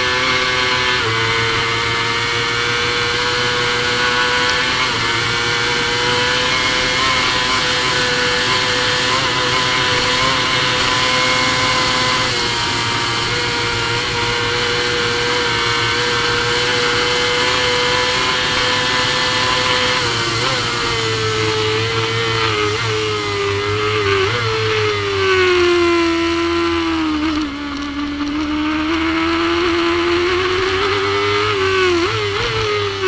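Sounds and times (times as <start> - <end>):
motorcycle engine at high speed: 0.0 - 33.0.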